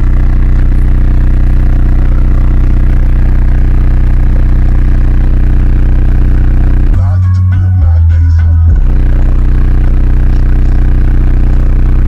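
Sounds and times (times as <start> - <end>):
deep bass tone from subwoofers: 0.0 - 12.0.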